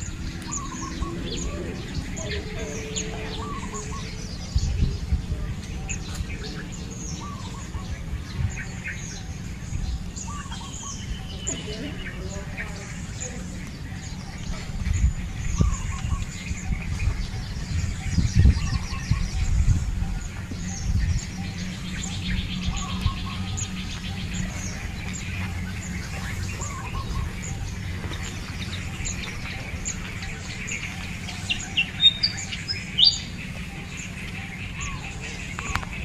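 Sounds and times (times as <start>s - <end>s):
birds chirping high: 0.0s - 36.0s.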